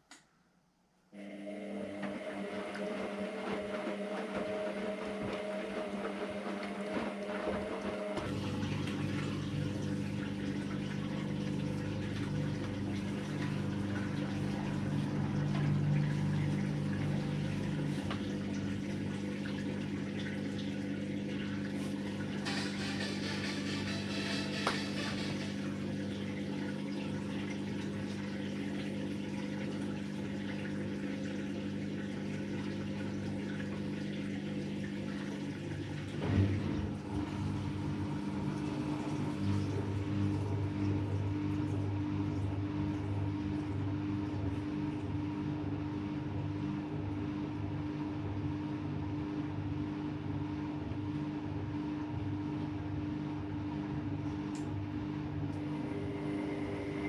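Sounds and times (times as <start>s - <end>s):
washing machine motor hum: 1.2s - 57.0s.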